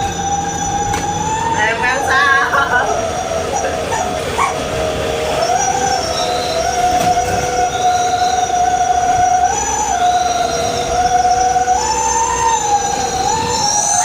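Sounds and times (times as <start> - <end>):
truck exhaust whistle howling: 0.0 - 14.0.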